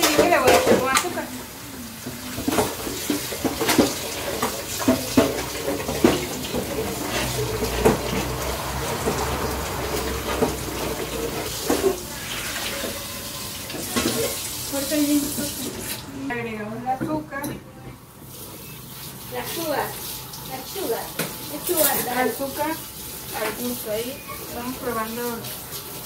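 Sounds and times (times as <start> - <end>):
kitchen utensils clattering: 0.0 - 16.2, 18.6 - 26.0
running water: 0.0 - 16.4, 18.1 - 26.0.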